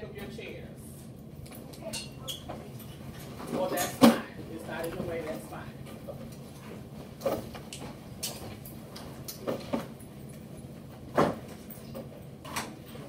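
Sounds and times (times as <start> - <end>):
low room hum: 0.0 - 13.0
chairs knocking and rustles: 2.2 - 13.0.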